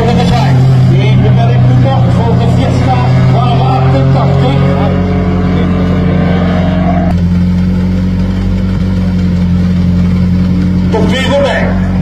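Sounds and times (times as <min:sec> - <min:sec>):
car engine accelerating: 0:00.0 - 0:12.0
dull engine drone: 0:00.0 - 0:12.0.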